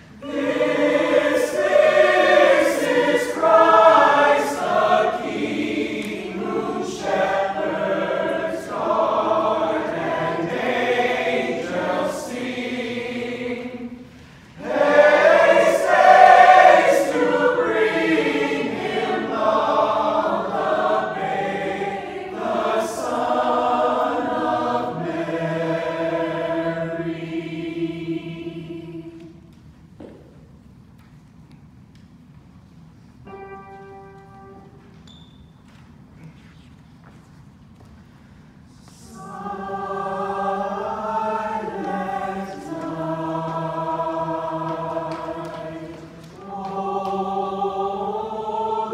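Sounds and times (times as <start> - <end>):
mixed choir singing: 0.0 - 29.5, 38.7 - 48.9.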